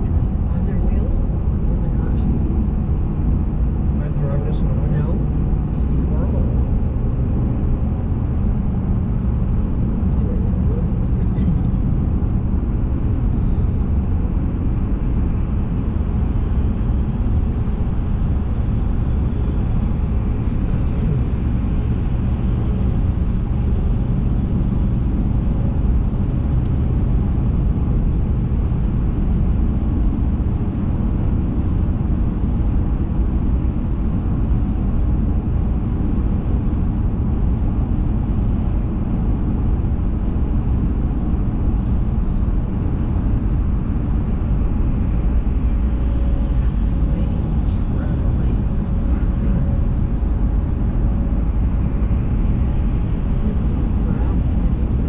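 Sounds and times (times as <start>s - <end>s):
road noise: 0.0s - 55.0s
vehicle engine rumble: 0.0s - 55.0s.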